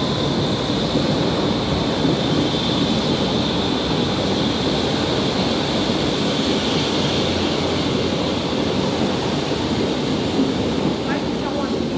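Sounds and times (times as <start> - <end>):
high-pitched train whine: 0.0 - 11.9
train wheels rumbling on rails: 0.0 - 11.9.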